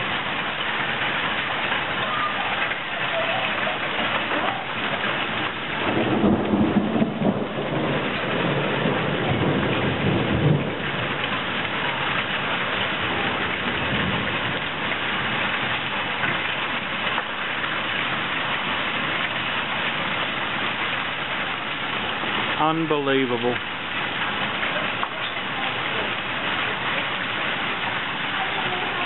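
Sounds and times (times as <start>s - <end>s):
hailstones pelting down: 0.0s - 29.0s
heavy rain: 0.0s - 29.0s.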